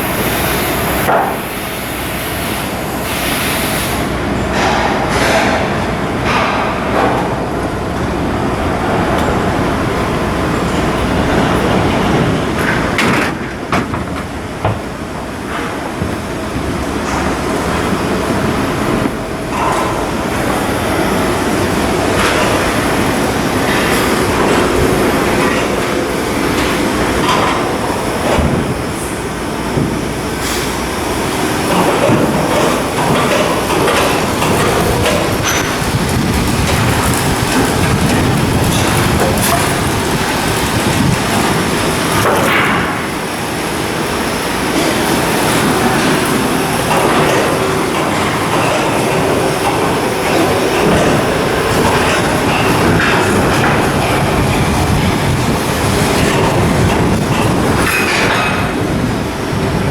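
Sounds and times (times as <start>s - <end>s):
industrial din: 0.0s - 59.9s.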